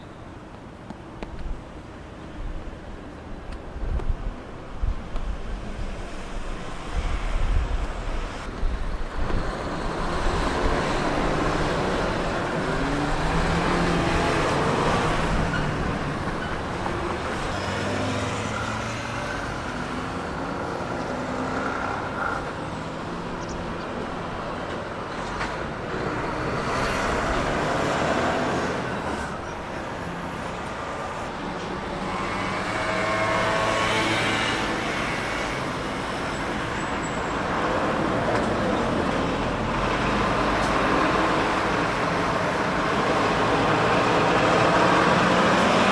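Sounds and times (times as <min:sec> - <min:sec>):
road traffic: 0:00.0 - 0:45.9
truck diesel engines accelerating: 0:05.5 - 0:45.9.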